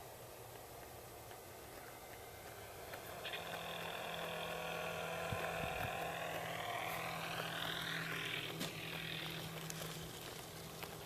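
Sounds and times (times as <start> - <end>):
model plane motor whining: 1.7 - 11.0.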